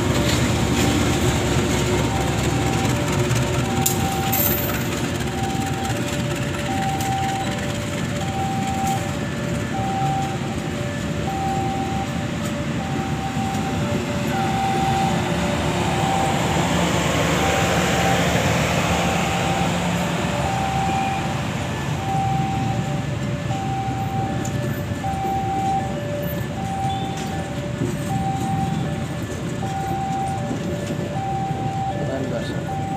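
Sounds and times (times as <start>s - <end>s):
level crossing two-tone alarm: 0.0s - 32.9s
passing train rumble: 0.0s - 32.9s.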